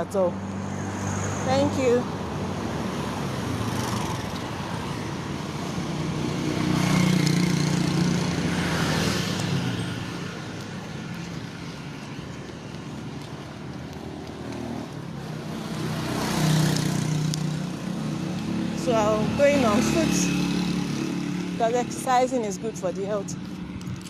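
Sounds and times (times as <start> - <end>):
faint traffic: 0.0 - 24.0
vehicle passing close by: 0.3 - 12.5, 13.3 - 24.0.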